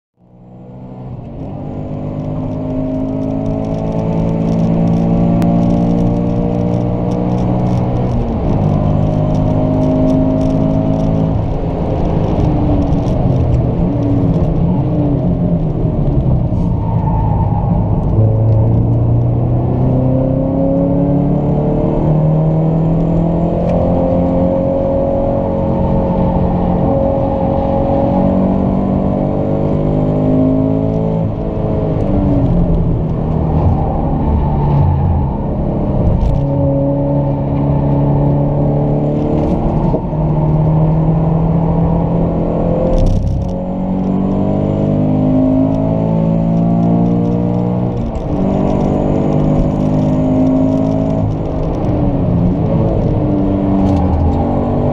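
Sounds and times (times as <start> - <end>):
car engine revving through gears: 0.3 - 54.9.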